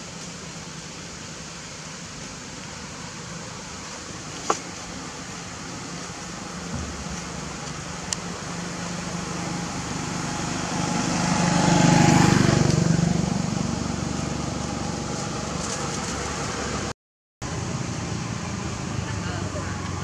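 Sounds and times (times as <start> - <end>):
vehicle passing on road: 2.9 - 20.0.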